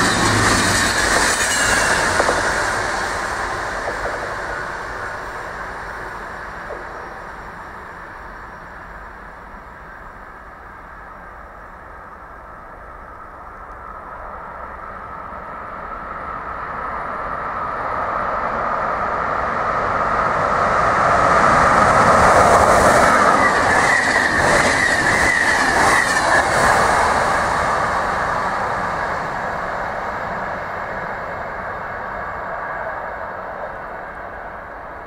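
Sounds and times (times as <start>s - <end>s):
train passing on rails: 0.0s - 35.0s.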